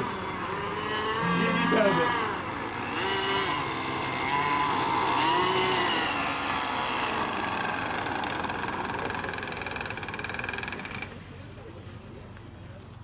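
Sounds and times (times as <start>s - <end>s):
racing boat engines whining: 0.0s - 12.2s.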